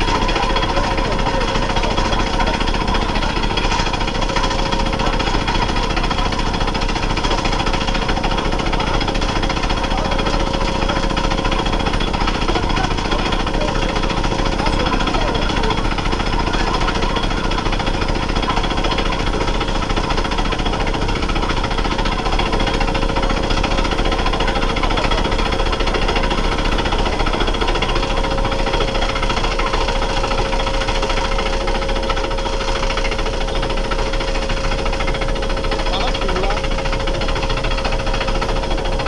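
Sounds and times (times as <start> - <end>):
pneumatic rock drill hammering: 0.0 - 39.0.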